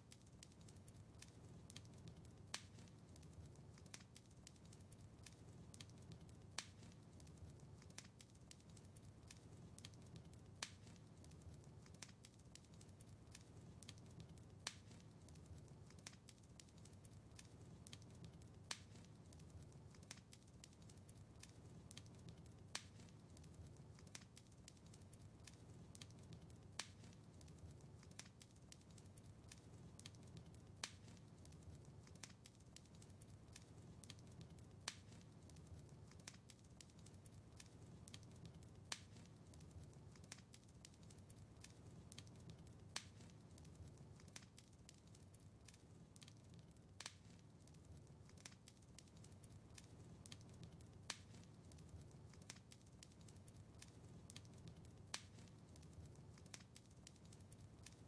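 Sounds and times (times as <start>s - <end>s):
fire crackling ticks: 0.0s - 58.0s
low rumble of flames: 0.0s - 58.0s
sharp fire pops: 0.1s - 45.0s, 46.9s - 58.0s.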